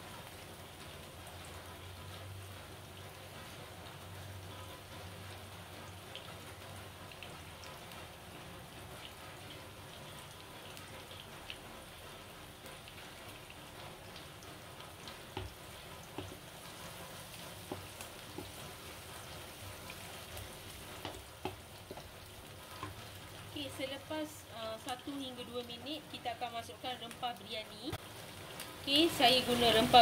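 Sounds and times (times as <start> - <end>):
onions sizzling in a wok: 0.0 - 30.0.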